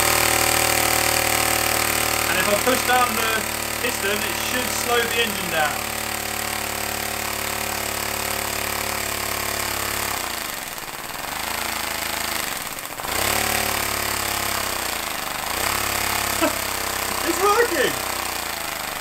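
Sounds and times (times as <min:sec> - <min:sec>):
compressed air engine running: 0:00.0 - 0:10.2, 0:13.0 - 0:18.8.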